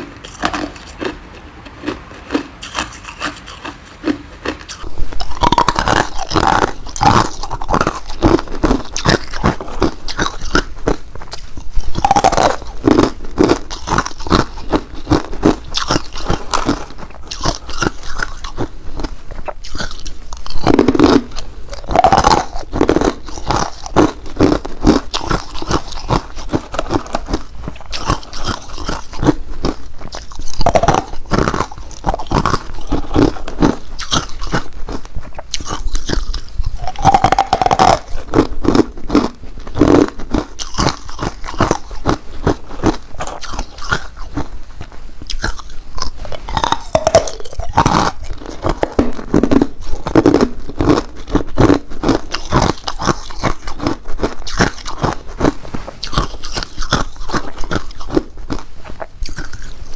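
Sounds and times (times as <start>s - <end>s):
person crunching ice cubes: 0.0s - 59.9s.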